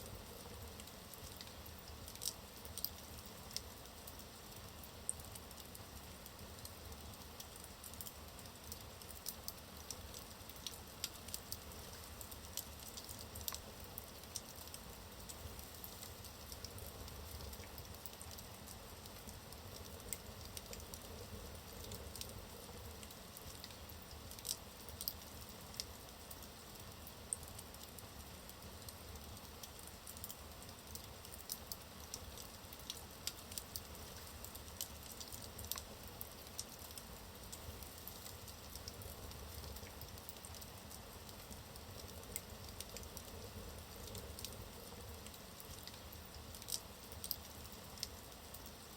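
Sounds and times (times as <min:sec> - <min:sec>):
logs burning and crackling: 0:00.6 - 0:48.8.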